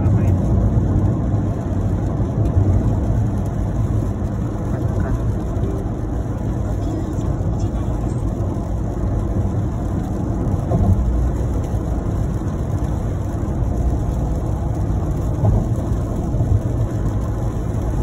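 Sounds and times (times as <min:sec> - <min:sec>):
car cabin road rumble: 0:00.0 - 0:18.0.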